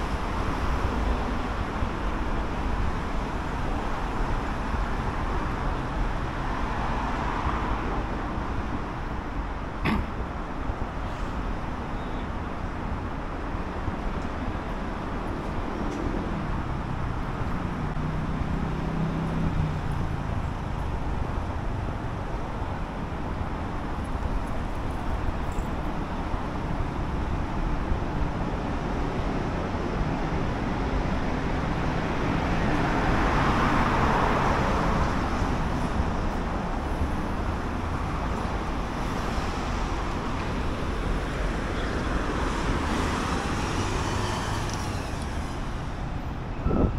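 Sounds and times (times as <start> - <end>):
road traffic noise: 0.0 - 46.9.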